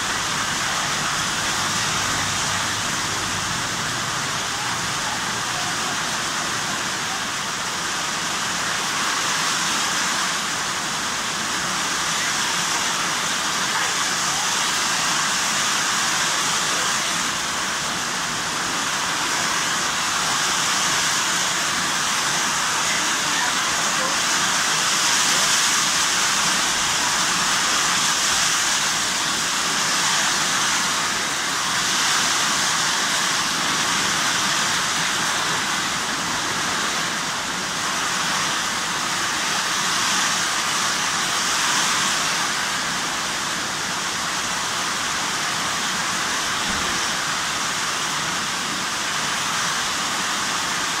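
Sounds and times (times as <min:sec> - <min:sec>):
heavy rain on metal roof: 0:00.0 - 0:51.0.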